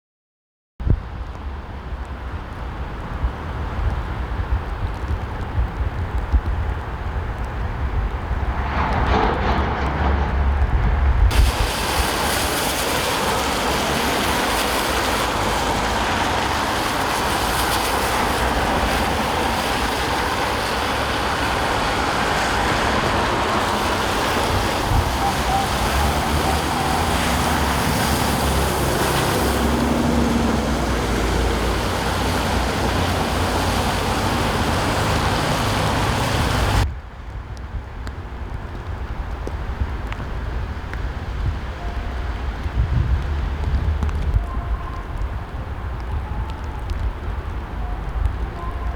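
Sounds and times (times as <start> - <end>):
wind: 0.8 - 48.9
traffic: 0.9 - 48.9.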